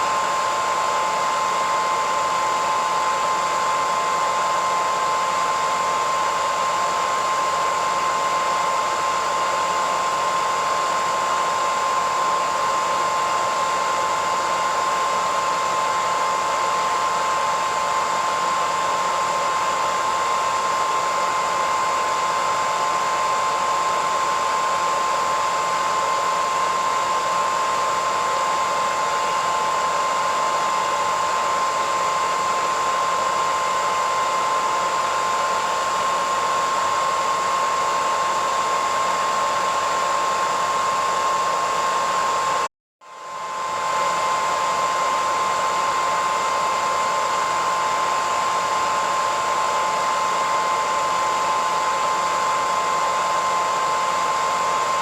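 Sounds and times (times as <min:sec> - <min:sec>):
hairdryer running: 0:00.0 - 0:55.0.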